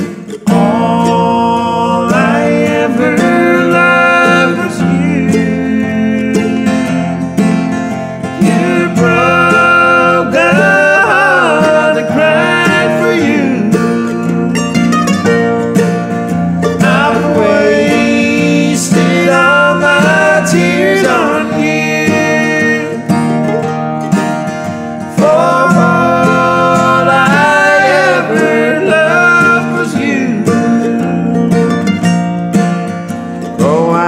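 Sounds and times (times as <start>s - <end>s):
man singing: 0.0s - 7.6s, 8.2s - 15.0s, 16.6s - 23.4s, 25.1s - 31.8s, 33.5s - 34.0s
mandolin: 0.0s - 34.0s
strummed acoustic guitar: 0.0s - 34.0s.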